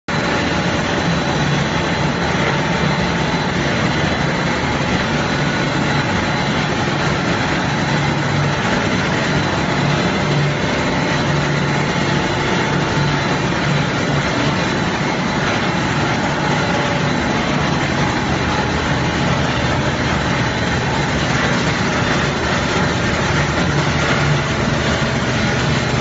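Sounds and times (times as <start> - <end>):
production line machine noise: 0.1 - 26.0.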